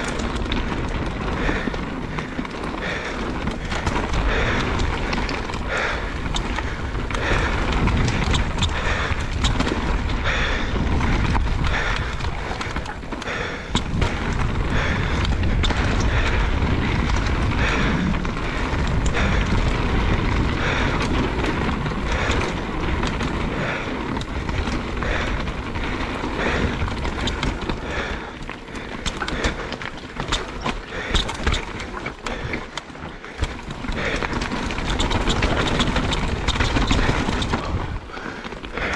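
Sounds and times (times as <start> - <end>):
bike rattling over bumps: 0.0 - 38.9
bike tyres rolling over dirt: 0.0 - 38.9
wind rush on microphone: 0.0 - 38.9.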